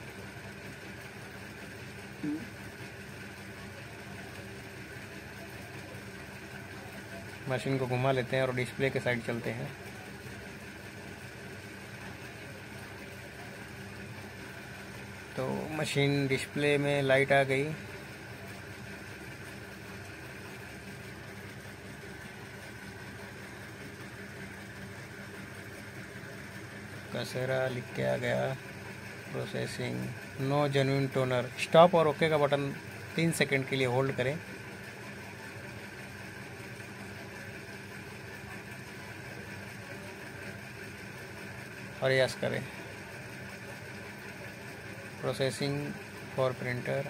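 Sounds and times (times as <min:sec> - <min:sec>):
laser printer humming: 0:00.0 - 0:47.0.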